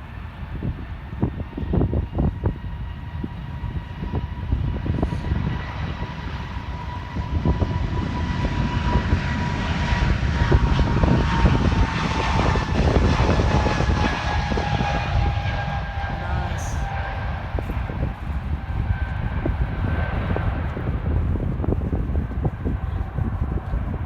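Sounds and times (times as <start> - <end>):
jet engine rumble: 0.0 - 24.0
wind buffeting microphone: 0.0 - 24.0
jet engines whining: 0.2 - 23.9.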